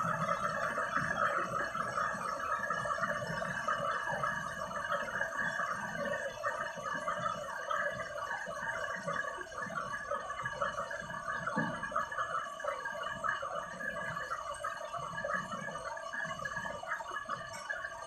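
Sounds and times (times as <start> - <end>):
washing machine water churning: 0.0 - 18.0.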